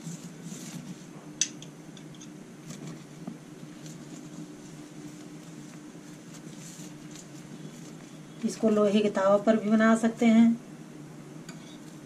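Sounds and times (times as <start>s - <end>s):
faint sizzling: 0.0s - 12.0s.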